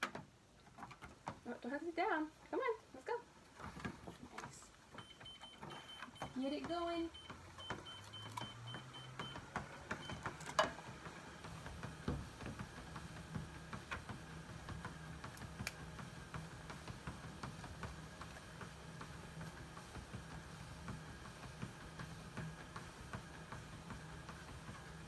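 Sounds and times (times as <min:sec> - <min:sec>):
treadmill motor humming: 0:00.0 - 0:25.0.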